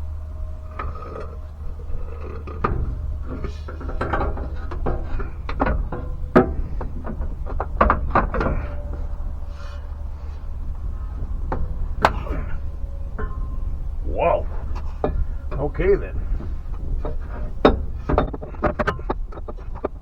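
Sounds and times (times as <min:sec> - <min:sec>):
hand tools and metal parts clanking: 0:00.0 - 0:20.0
steady low hum: 0:00.0 - 0:20.0.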